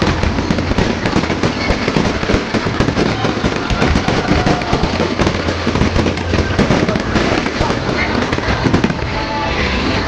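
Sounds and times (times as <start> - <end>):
fireworks cracks and crackles: 0.0 - 10.0
fireworks deep booms: 0.0 - 10.0.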